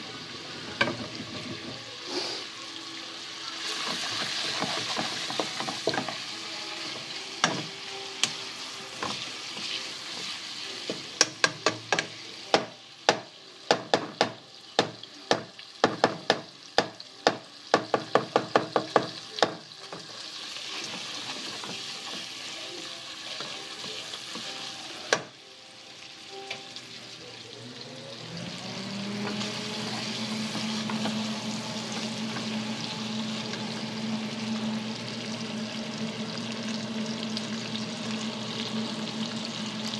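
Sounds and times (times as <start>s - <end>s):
bacon sizzling in a pan: 0.0s - 39.9s.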